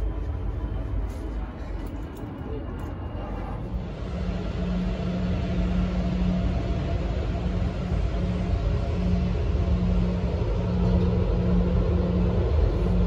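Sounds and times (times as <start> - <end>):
engine rumble: 0.0 - 13.0
steady low hum: 0.0 - 13.0.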